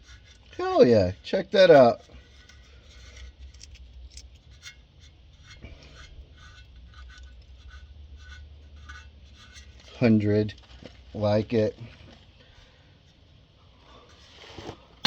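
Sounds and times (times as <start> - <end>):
faint handling scratches and ticks: 0.0 - 13.4
steady low hum: 0.0 - 15.0.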